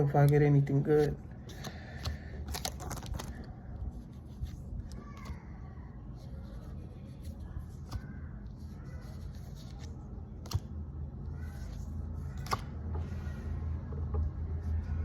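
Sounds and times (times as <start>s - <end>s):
cards rustling: 0.0s - 13.3s.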